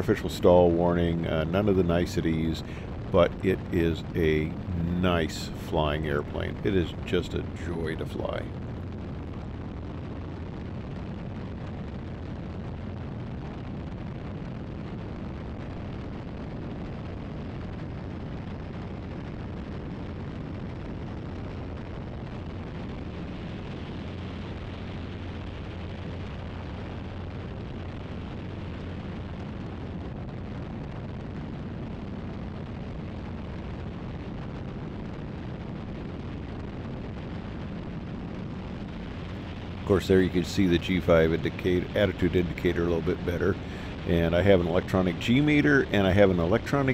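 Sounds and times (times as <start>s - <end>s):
biplane engine and propeller: 0.0s - 46.9s
wind rushing over microphone: 0.0s - 46.9s.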